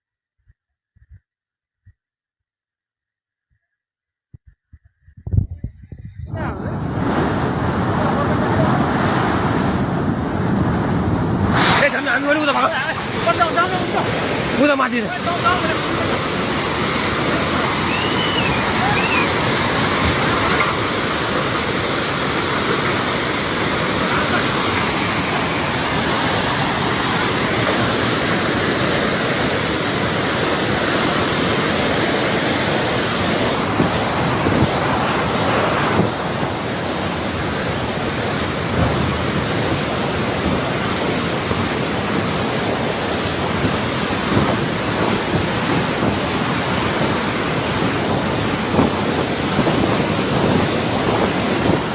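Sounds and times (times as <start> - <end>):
torrent of fast-moving water: 6.2 - 51.9.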